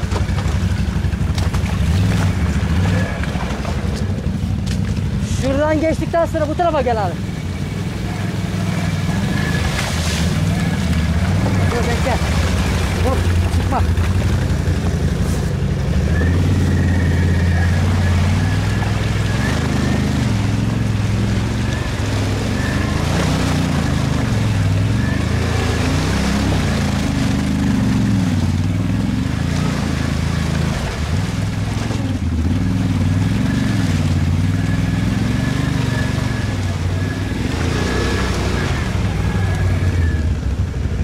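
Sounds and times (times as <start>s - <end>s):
atv engines revving: 0.0s - 41.0s.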